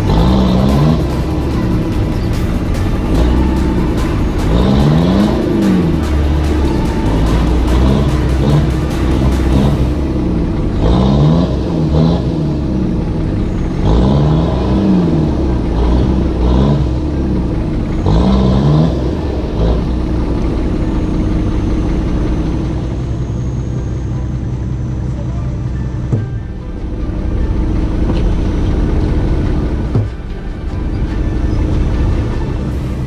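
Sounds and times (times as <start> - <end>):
off-road engine revving: 0.0 - 33.0.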